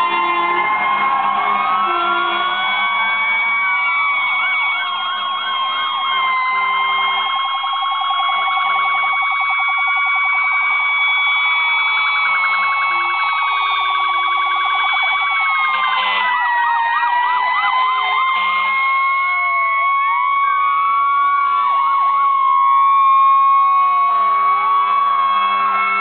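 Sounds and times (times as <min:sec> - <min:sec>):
emergency sirens wailing and yelping: 0:00.0 - 0:26.0.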